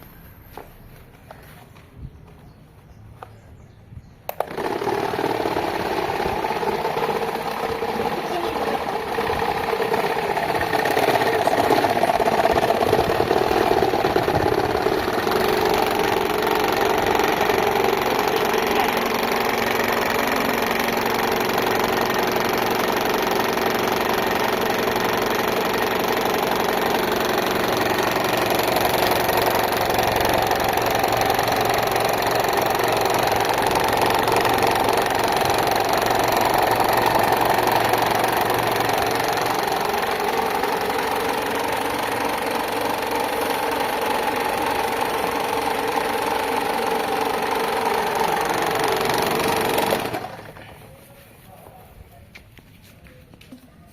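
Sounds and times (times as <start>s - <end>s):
electric fan running: 0.0s - 53.6s.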